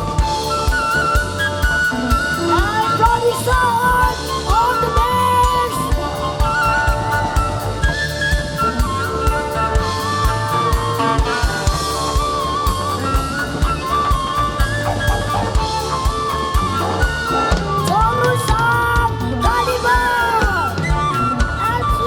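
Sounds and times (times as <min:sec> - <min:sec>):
drum kit steady beat: 0:00.0 - 0:22.0
melodic guitar line: 0:00.0 - 0:22.0.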